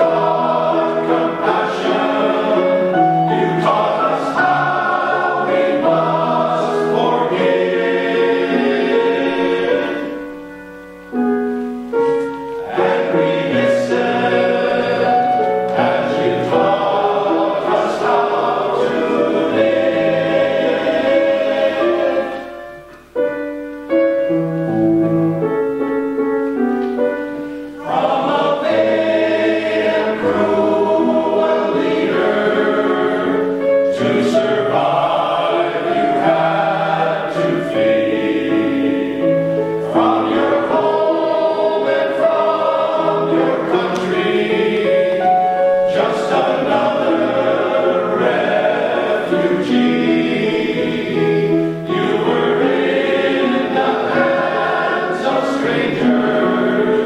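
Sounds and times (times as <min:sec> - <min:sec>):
male choir singing in harmony: 0:00.0 - 0:11.3, 0:11.9 - 0:23.2, 0:27.2 - 0:57.0.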